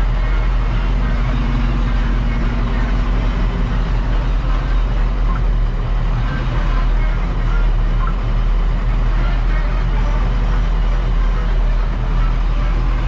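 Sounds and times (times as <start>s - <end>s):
farm machinery engine droning: 0.0s - 13.0s.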